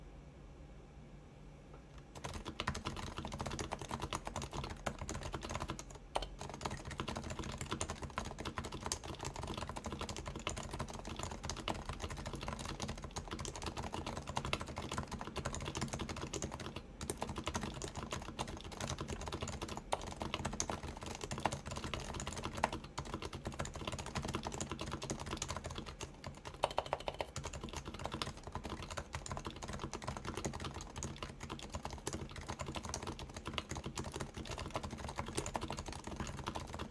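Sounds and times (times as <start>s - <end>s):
keyboard typing: 2.0s - 36.9s.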